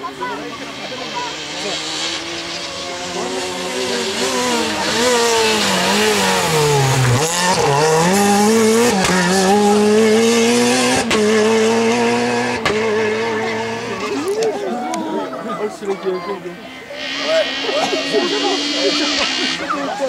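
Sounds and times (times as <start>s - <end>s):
rally car engine: 0.0s - 20.0s.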